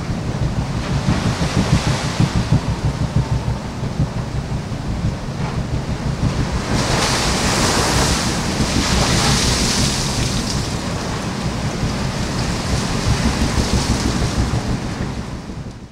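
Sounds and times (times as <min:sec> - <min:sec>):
sea rushing past ship: 0:00.0 - 0:15.9
wind buffeting microphone: 0:00.0 - 0:15.9.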